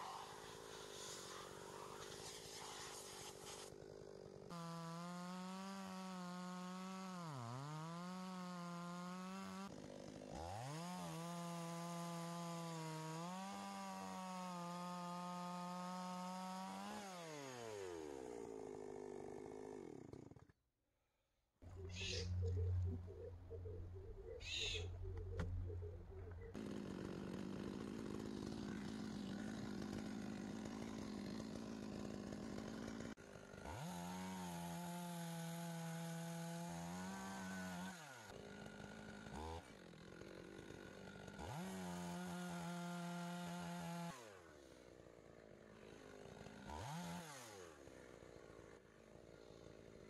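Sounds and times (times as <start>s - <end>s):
chainsaw revving: 3.7s - 20.4s, 25.0s - 50.0s.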